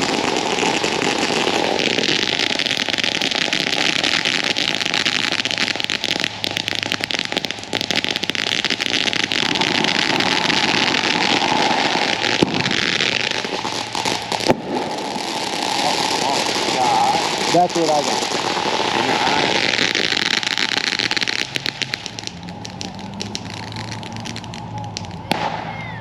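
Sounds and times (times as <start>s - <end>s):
firecrackers popping: 0.0s - 26.0s.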